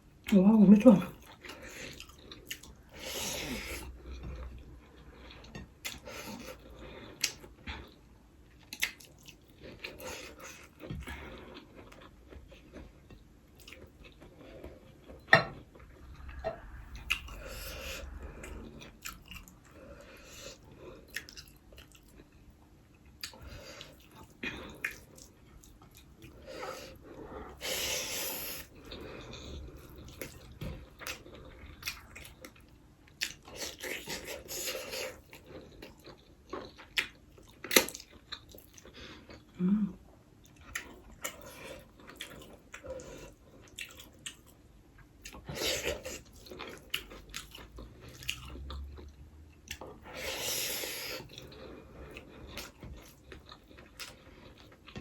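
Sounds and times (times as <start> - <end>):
close-up chewing: 1.1 - 39.6, 40.3 - 55.0.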